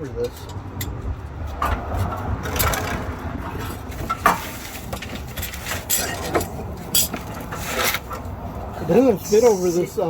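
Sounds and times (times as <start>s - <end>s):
metal knocks and scraping: 0.2s - 8.4s.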